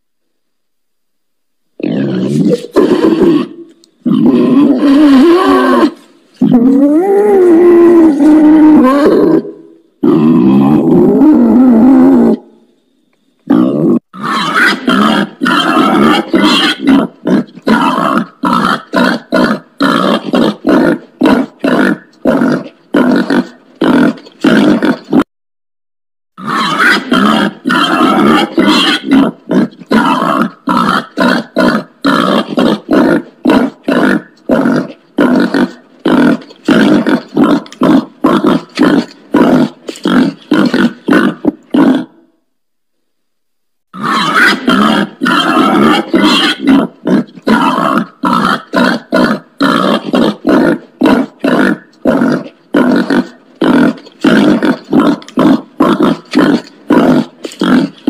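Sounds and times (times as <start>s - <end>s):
wild pig grunting: 1.8s - 12.5s, 13.5s - 25.2s, 26.4s - 42.3s, 43.9s - 58.0s.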